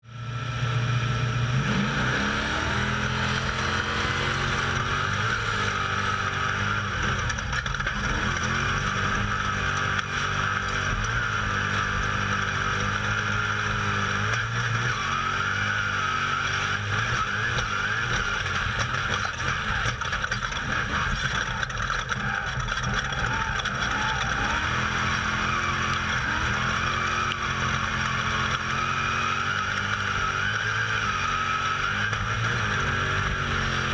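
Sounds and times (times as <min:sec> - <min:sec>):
race vehicle engine revving: 0:00.1 - 0:33.9.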